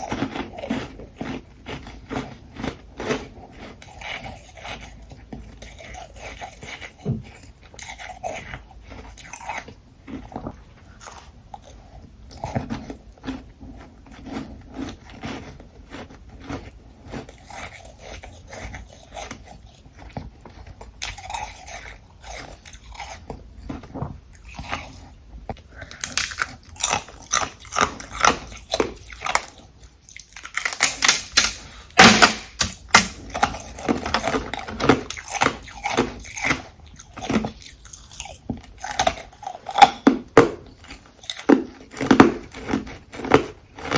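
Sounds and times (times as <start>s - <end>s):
person chewing ice: 0.0s - 43.9s.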